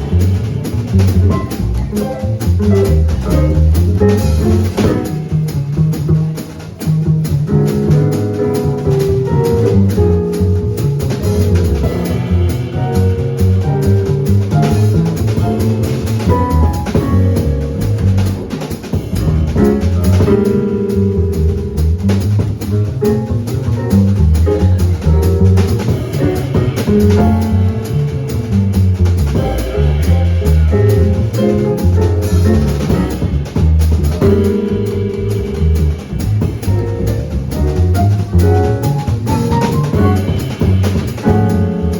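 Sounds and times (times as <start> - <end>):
small jazz group playing: 0.0 - 41.9
walking bass line: 0.0 - 41.9.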